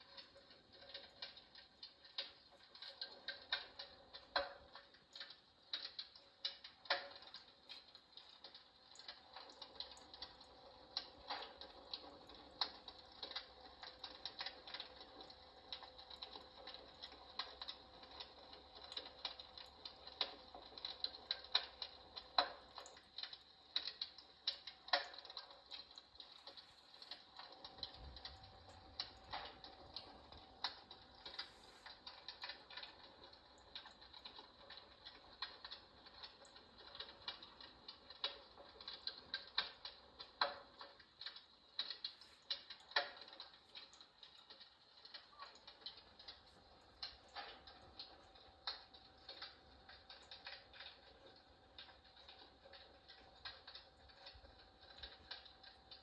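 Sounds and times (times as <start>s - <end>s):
electric fireplace crackling clicks: 0.0s - 56.0s
faint steady hum: 0.0s - 56.0s.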